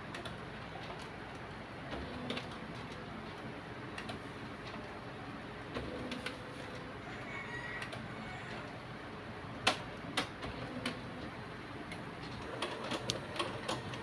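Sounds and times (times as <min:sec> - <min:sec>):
printer ticking and clicking: 0:00.0 - 0:05.0, 0:05.6 - 0:06.9, 0:07.8 - 0:08.8, 0:09.5 - 0:14.0
printer low hum: 0:00.0 - 0:14.0.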